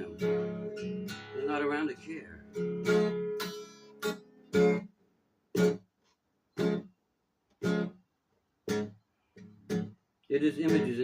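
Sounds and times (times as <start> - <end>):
acoustic guitar strummed chords: 0.0 - 5.9, 6.6 - 7.0, 7.6 - 8.0, 8.7 - 11.0.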